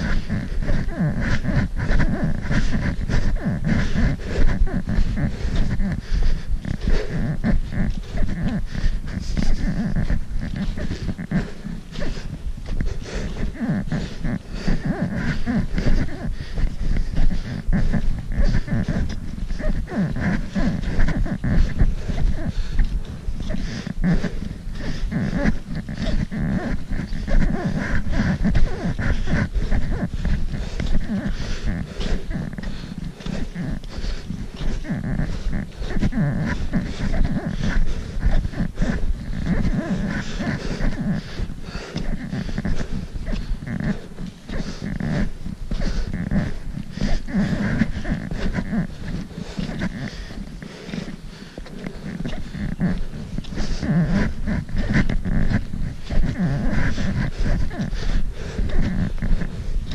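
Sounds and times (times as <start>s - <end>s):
heavy breathing: 0.0s - 59.9s
low rumble on microphone: 0.0s - 59.9s.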